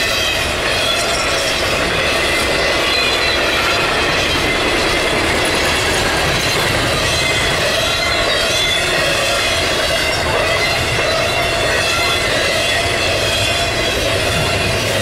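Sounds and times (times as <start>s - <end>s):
train wheels rushing on rail: 0.0s - 15.0s.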